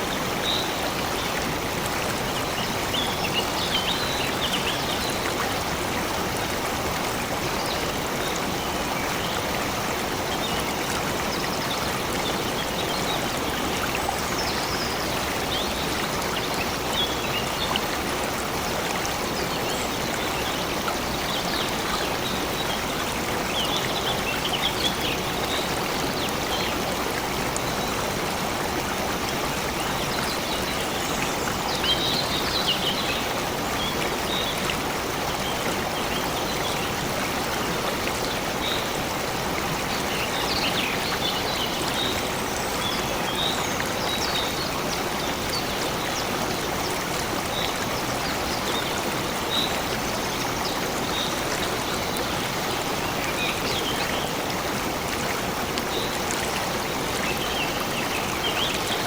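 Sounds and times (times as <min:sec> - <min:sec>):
stream water splashing: 0:00.0 - 0:59.0.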